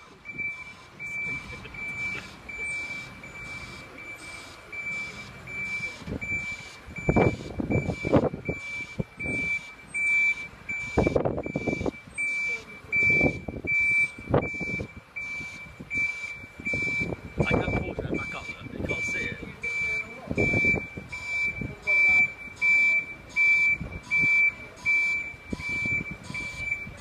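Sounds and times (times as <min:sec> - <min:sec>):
reversing alarm beeping: 0:00.0 - 0:27.0.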